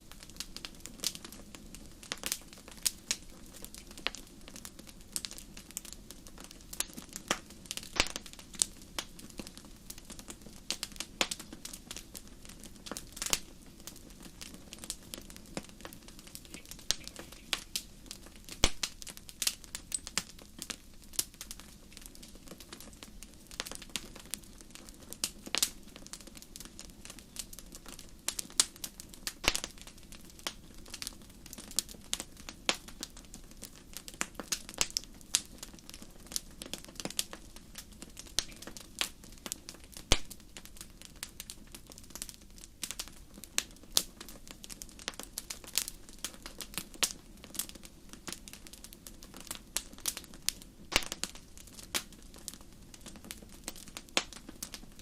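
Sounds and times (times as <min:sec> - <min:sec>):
wood fire crackling and popping: 0:00.0 - 0:55.0
fire flames rumbling: 0:00.1 - 0:55.0.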